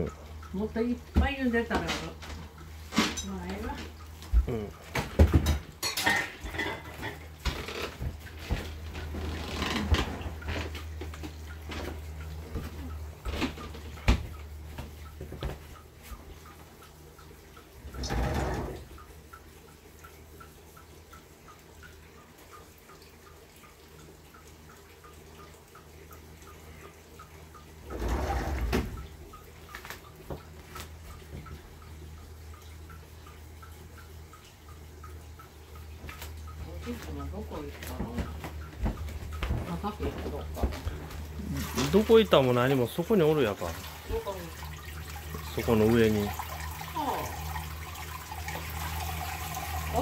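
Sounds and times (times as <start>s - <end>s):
faint regular ticking: 0.0s - 4.9s, 7.3s - 18.0s, 18.8s - 49.3s.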